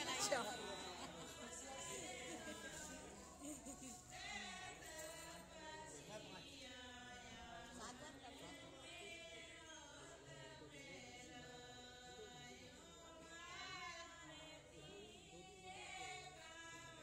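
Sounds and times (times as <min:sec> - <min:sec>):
voices singing chant-like lines: 0:00.0 - 0:17.0.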